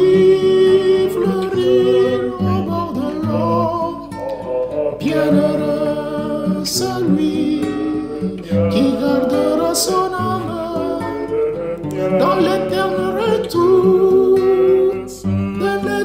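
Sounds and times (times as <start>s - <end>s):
classical guitar plucking: 0.0s - 16.0s
two men singing: 0.0s - 16.0s.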